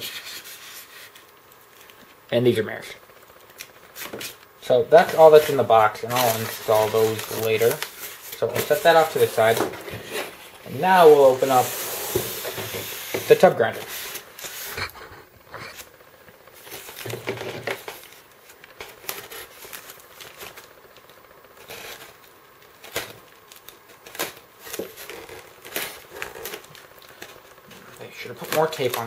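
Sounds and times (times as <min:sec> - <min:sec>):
styrofoam and paper rustling: 0:00.0 - 0:02.1, 0:03.4 - 0:14.9, 0:15.6 - 0:29.0.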